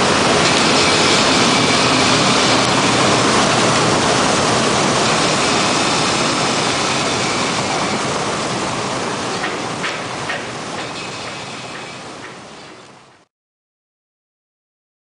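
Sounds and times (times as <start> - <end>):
water jets spraying in washer: 0.0 - 13.3.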